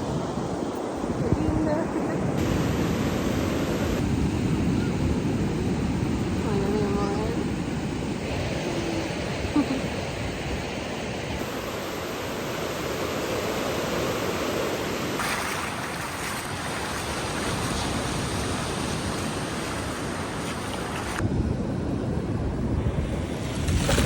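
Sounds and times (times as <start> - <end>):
ocean waves washing onto beach: 0.0 - 24.0.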